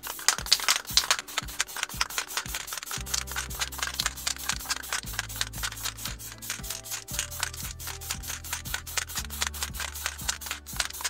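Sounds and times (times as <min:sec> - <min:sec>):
fast rattling beat with bass line: 0:00.0 - 0:11.0.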